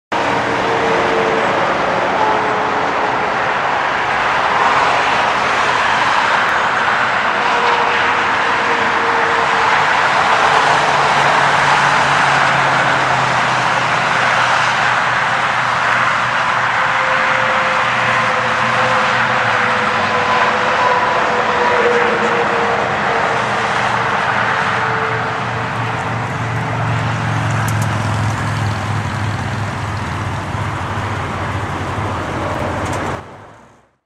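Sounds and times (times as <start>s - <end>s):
loud vehicle roar: 0.1s - 34.0s.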